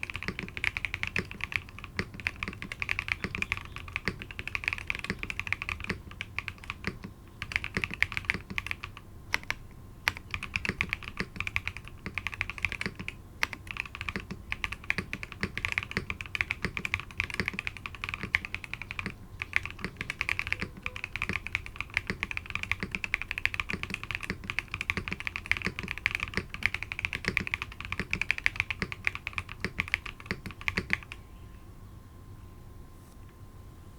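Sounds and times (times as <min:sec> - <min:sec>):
typing on mechanical keyboard: 0:00.0 - 0:31.2.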